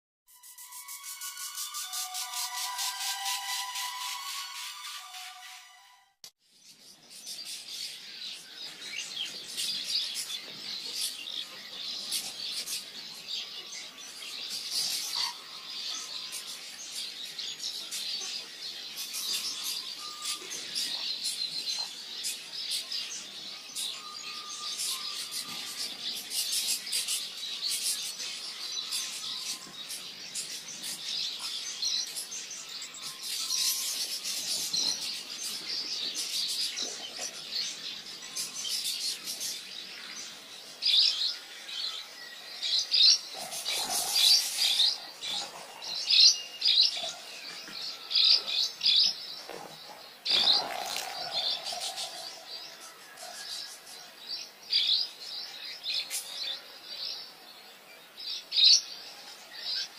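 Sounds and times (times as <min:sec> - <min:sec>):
birds chirping and twittering: 0:00.3 - 0:59.9.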